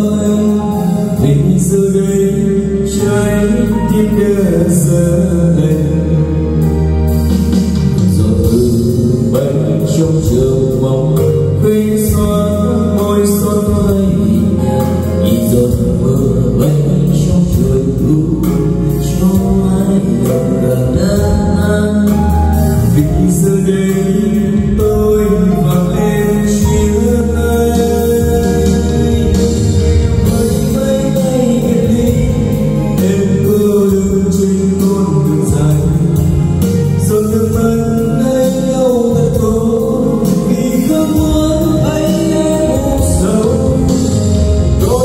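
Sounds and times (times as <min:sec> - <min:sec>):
karaoke backing track with bass: 0:00.0 - 0:45.0
person singing into microphone: 0:00.0 - 0:45.0.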